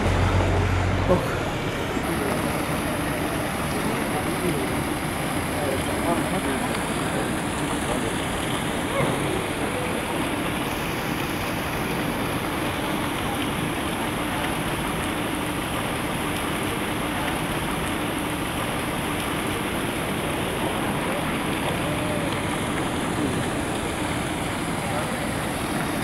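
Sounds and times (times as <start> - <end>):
street noise: 0.0 - 26.0
traffic hiss: 0.0 - 26.0.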